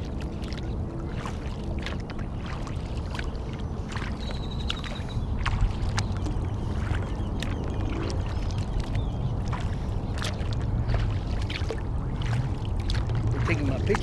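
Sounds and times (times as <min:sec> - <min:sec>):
paddle splashing in water: 0:00.0 - 0:14.0
water dripping off paddle: 0:00.0 - 0:14.0.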